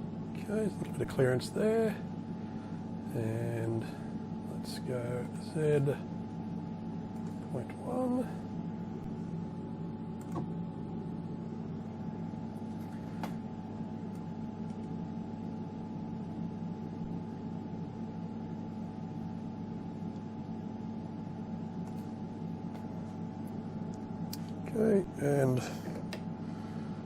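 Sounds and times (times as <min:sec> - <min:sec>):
lathe electrical hum: 0:00.0 - 0:27.0.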